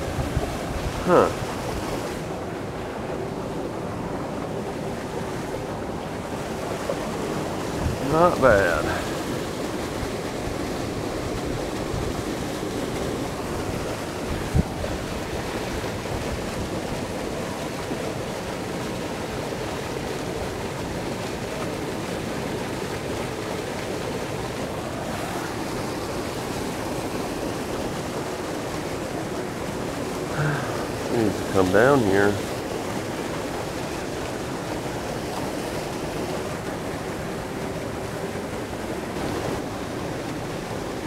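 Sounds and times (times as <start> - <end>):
water pouring into churning pool: 0.0 - 41.0.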